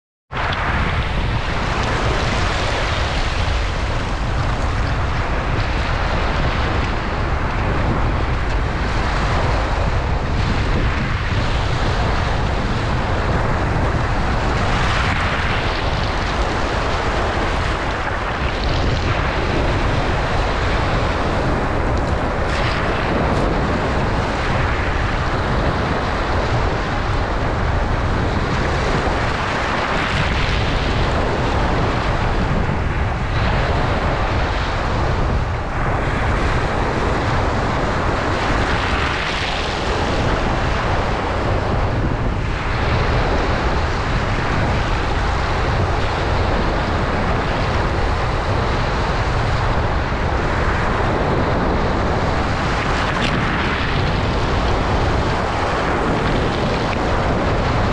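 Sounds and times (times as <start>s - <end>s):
low microphone rumble: 0.3s - 57.9s
waves washing over pebbles: 0.4s - 57.9s.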